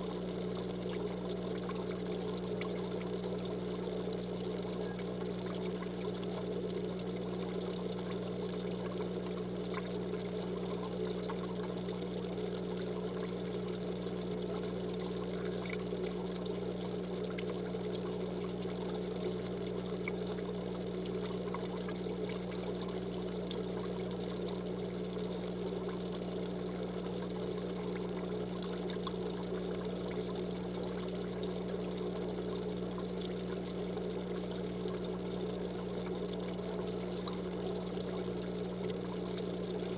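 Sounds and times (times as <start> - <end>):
low electrical hum: 0.0 - 39.9
water trickling: 0.0 - 39.9.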